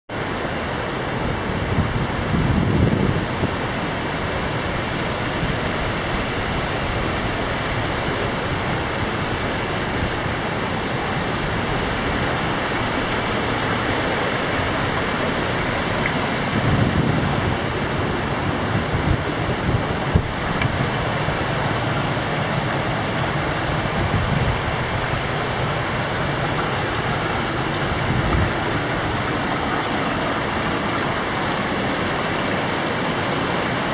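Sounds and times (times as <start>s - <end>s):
river white water rushing: 0.1s - 33.9s.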